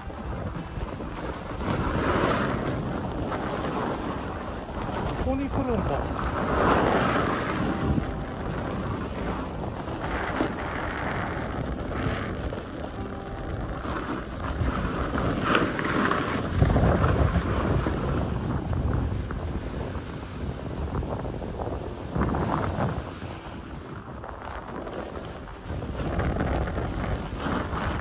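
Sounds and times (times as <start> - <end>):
skis carving snow: 0.0 - 28.0
wind on microphone: 0.0 - 28.0.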